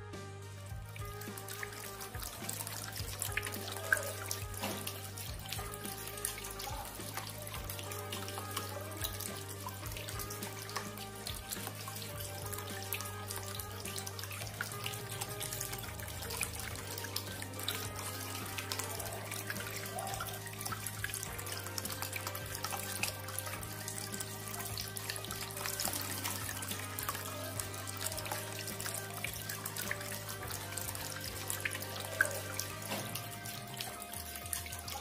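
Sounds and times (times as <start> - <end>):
background music: 0.0 - 35.0
fountain water trickling: 0.0 - 35.0.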